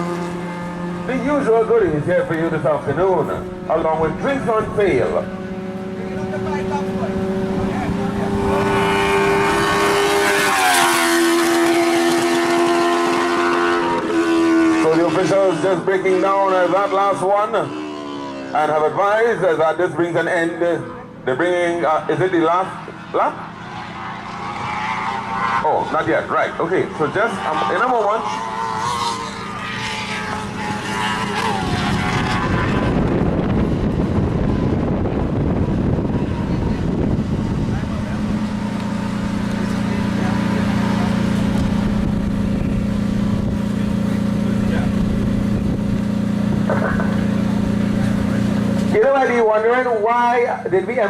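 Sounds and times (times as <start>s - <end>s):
race car engine passing: 0.0s - 51.0s.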